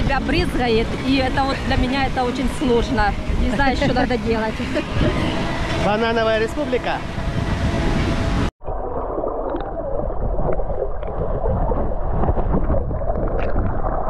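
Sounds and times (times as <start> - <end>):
poolside noise: 0.0 - 6.9, 8.6 - 14.0
muffled underwater rushing and gurgling: 0.0 - 14.0.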